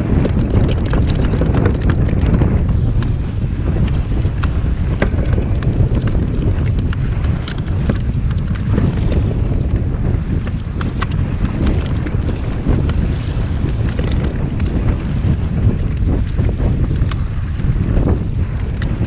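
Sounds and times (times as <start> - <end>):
water splashing: 0.0 - 19.0
wind buffeting microphone: 0.0 - 19.0.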